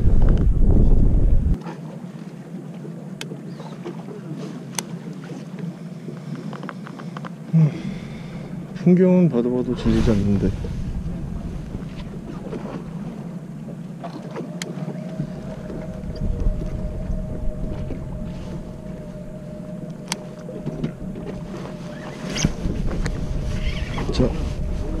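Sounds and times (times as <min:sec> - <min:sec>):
boat engine rumble: 0:00.0 - 0:25.0
water noise: 0:00.0 - 0:25.0
wind: 0:00.0 - 0:25.0
faint steady hum: 0:04.2 - 0:25.0.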